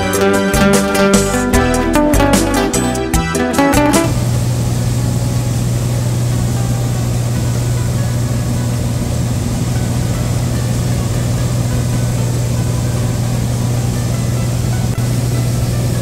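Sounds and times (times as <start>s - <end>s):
airplane engine drone: 0.0s - 16.0s.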